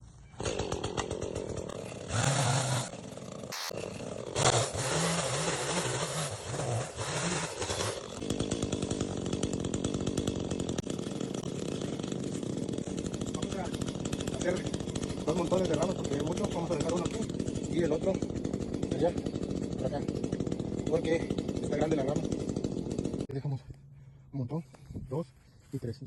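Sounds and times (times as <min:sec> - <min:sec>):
chainsaw revving and idling: 0:00.4 - 0:23.4.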